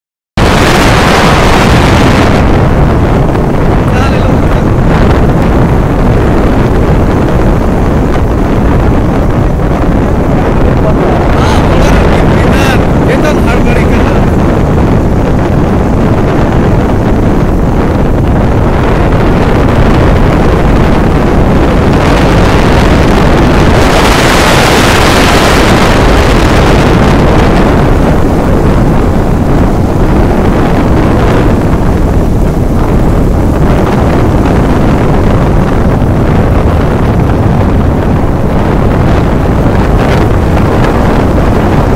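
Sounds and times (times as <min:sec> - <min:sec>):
road and engine rumble: 0:00.4 - 0:41.9
wind buffeting microphone: 0:00.4 - 0:41.9.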